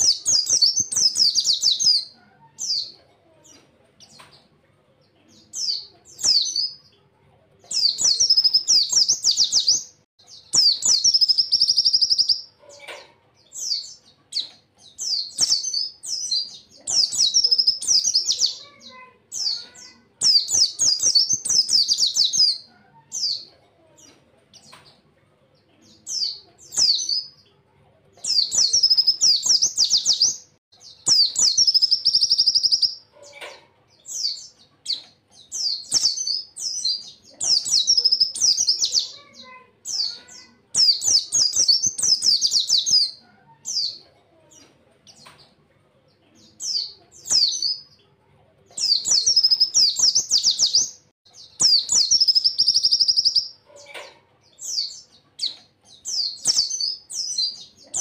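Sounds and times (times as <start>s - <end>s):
bird chirping and trilling: 0.0s - 27.6s, 28.2s - 45.6s, 46.4s - 58.0s.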